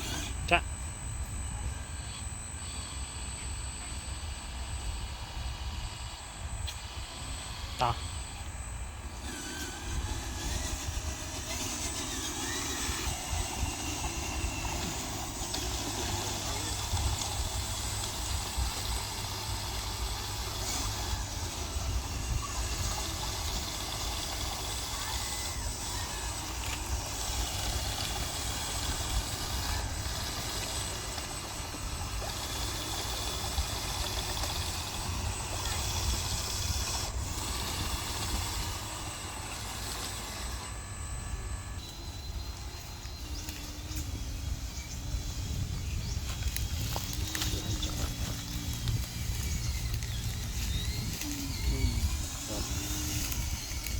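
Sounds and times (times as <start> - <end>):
small motor running: 0.0 - 53.9.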